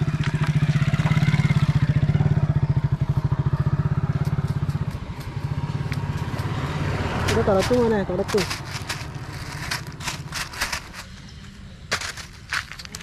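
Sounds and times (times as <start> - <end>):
small engine running: 0.0 - 11.2.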